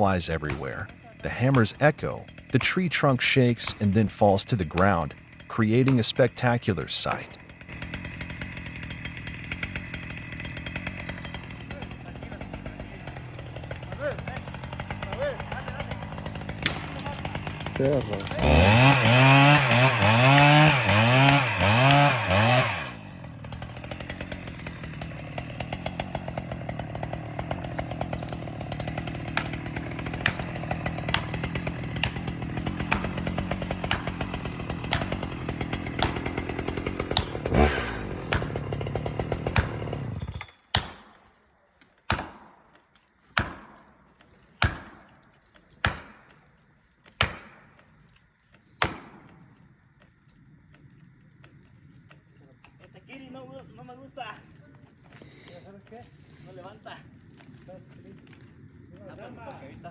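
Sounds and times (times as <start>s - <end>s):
chainsaw revving and running: 0.0s - 40.5s, 51.0s - 59.9s.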